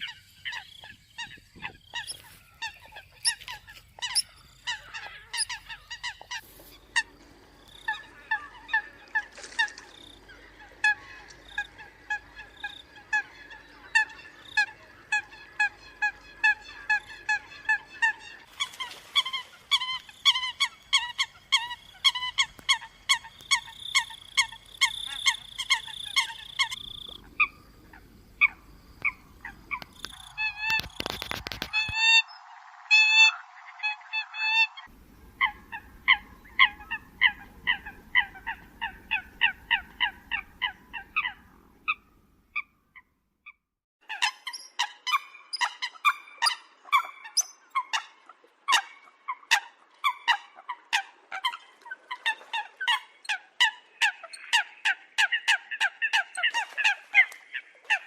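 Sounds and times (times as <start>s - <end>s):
coots calling: 0.0s - 43.1s, 44.0s - 58.0s.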